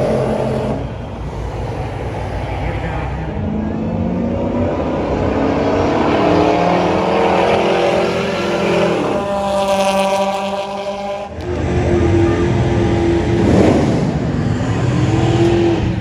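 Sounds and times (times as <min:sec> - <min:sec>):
vehicle engine accelerating: 0:00.0 - 0:16.0.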